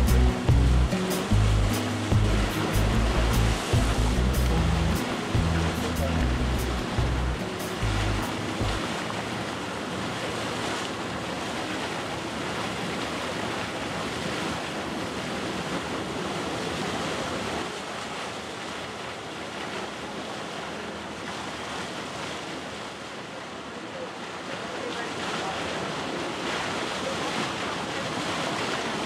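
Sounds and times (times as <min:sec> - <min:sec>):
choppy sea water rushing: 0:00.0 - 0:29.0.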